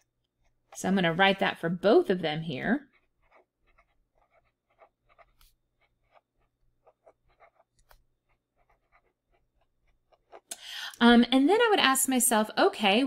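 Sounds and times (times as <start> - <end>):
marker scratching on paper: 0.0 - 10.5.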